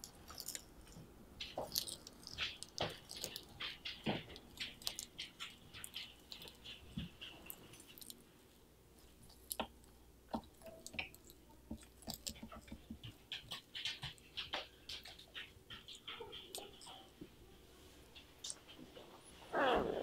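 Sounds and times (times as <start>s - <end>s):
small wet clicks: 0.0s - 8.2s, 9.0s - 17.1s.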